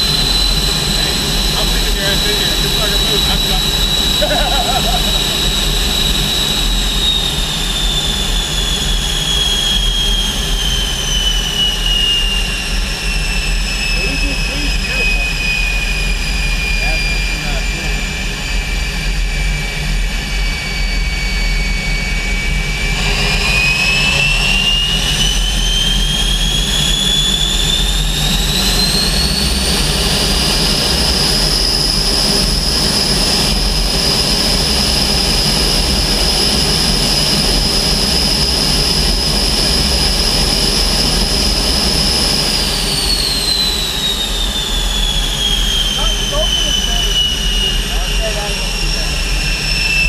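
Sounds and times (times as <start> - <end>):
low engine rumble: 0.0 - 11.6, 12.4 - 19.0, 22.6 - 49.9
jet engine compressor whine: 0.0 - 50.0.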